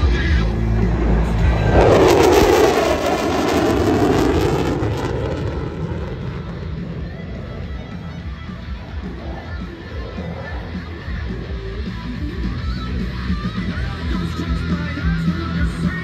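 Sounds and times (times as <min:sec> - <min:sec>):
jet passing overhead: 0:00.0 - 0:13.1.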